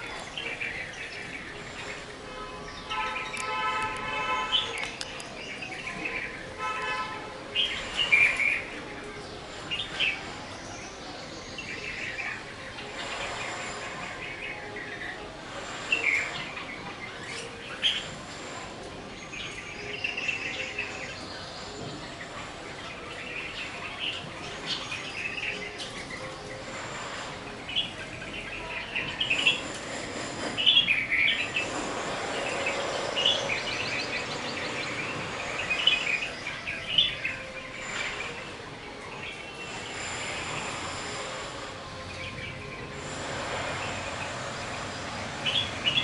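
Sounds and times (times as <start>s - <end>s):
steady rushing noise: 0.0s - 19.7s, 20.7s - 46.0s
birds chirping: 0.0s - 46.0s.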